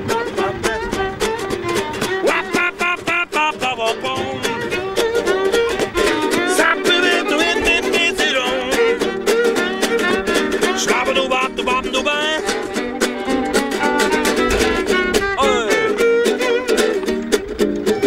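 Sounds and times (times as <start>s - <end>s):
acoustic guitar strumming: 0.0s - 18.0s
violin sliding melody: 0.0s - 18.0s.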